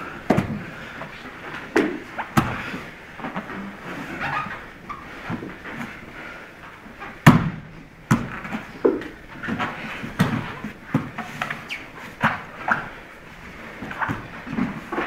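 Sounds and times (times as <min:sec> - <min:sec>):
bodies slapping on foam mats: 0:00.0 - 0:06.1, 0:06.8 - 0:15.0.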